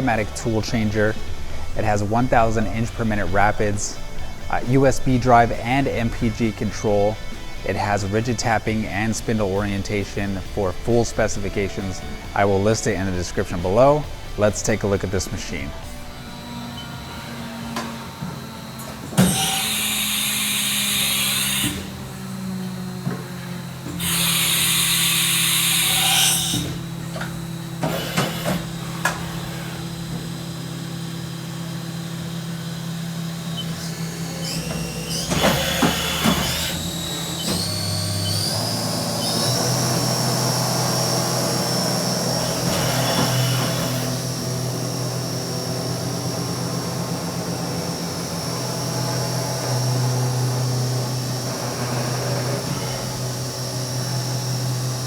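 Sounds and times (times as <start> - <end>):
machine humming: 0.0 - 55.0
spindle whine: 0.0 - 55.0.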